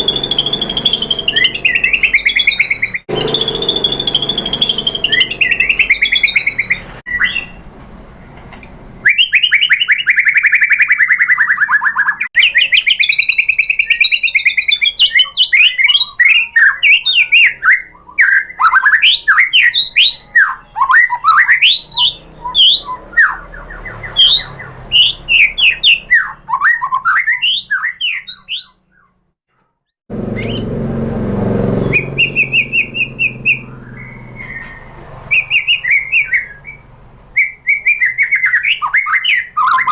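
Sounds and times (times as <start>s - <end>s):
bird singing whistles and trills: 0.0s - 29.2s, 30.4s - 39.9s.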